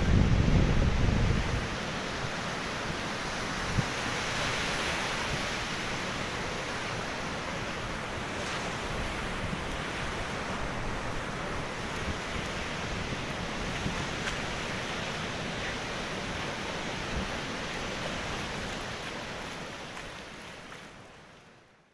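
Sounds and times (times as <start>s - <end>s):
surf breaking on beach: 0.0s - 21.0s.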